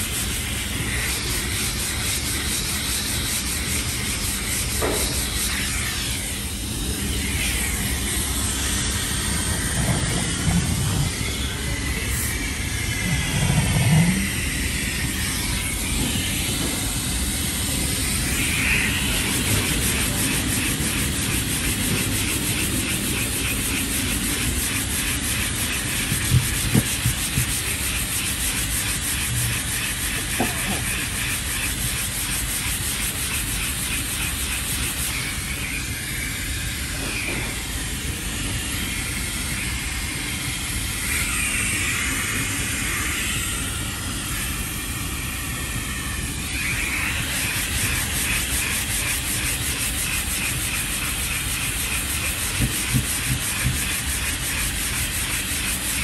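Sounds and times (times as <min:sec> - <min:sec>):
hand sanding rasping strokes: 0:00.0 - 0:38.3, 0:45.6 - 0:56.0.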